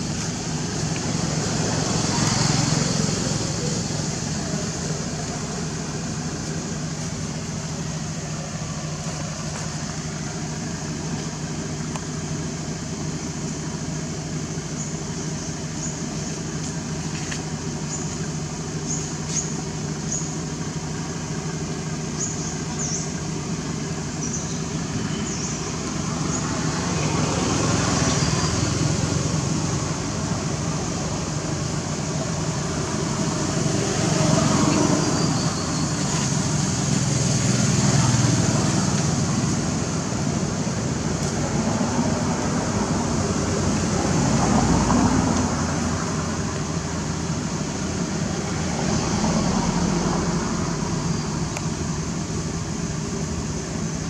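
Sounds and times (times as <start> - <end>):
traffic hum: 0.0 - 54.0.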